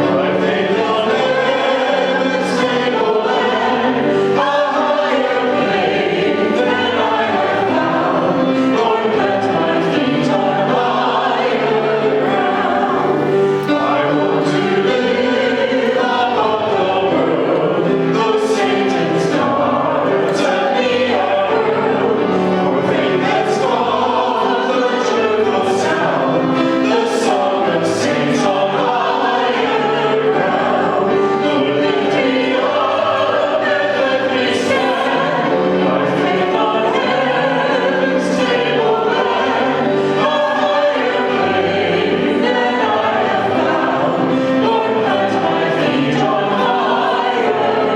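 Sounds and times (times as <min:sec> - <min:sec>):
choir singing: 0:00.0 - 0:47.9.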